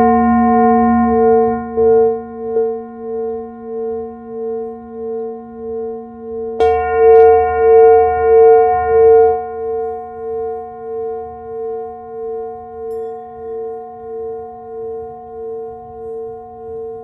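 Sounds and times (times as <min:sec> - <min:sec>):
brass singing bowl ringing: 0:00.0 - 0:17.0.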